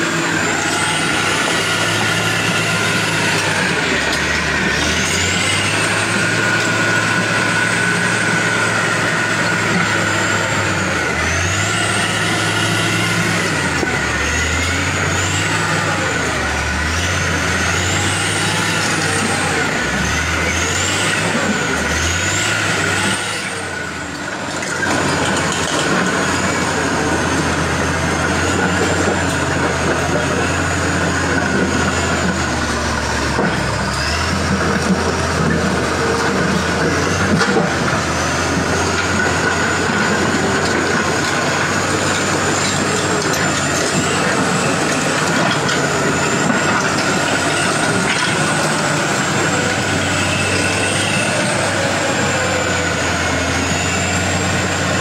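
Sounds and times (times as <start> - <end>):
bulldozer diesel engine drone: 0.0 - 55.0.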